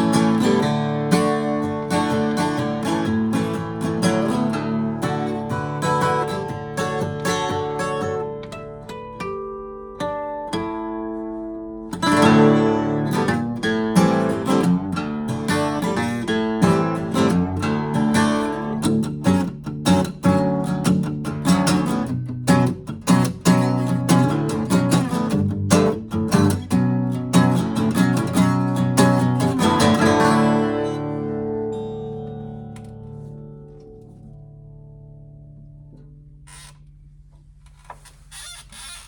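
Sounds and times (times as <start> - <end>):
acoustic guitar strummed chords: 0.0 - 36.5
acoustic guitar notes: 0.0 - 38.1.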